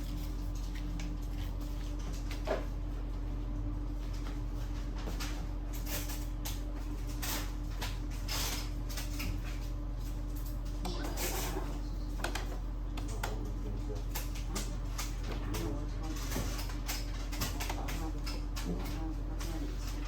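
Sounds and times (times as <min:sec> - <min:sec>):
printer low hum: 0:00.0 - 0:05.8, 0:06.6 - 0:20.0.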